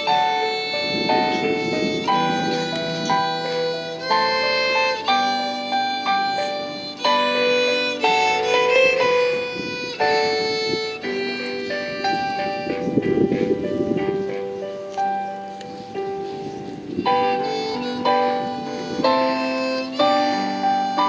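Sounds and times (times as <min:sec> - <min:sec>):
piano accompaniment: 0:00.0 - 0:21.0
violin melody: 0:00.0 - 0:21.0.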